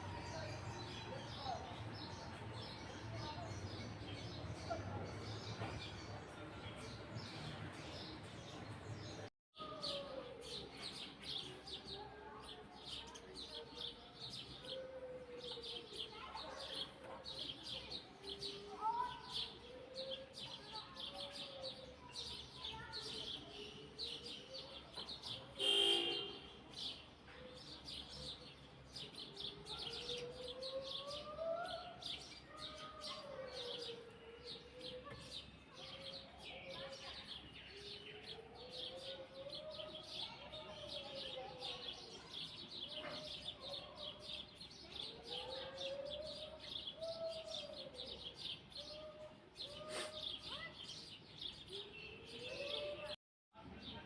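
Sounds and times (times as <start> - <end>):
small birds chirping: 0.0 - 53.2.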